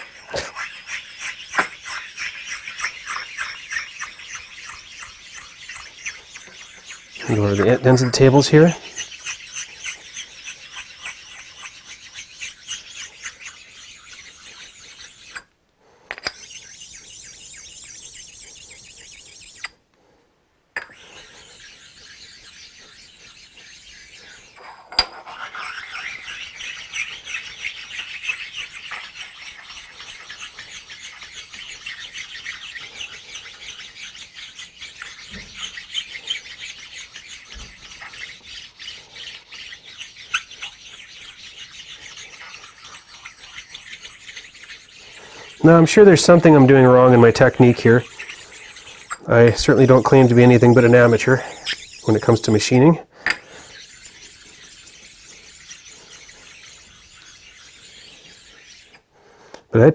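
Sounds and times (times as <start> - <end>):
stone scraping on metal: 0.0 - 15.5, 16.1 - 19.8, 20.8 - 59.1.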